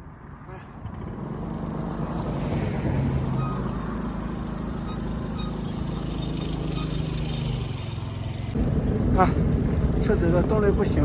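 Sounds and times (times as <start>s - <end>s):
road noise: 0.0s - 11.0s
small engine labouring: 0.7s - 11.0s.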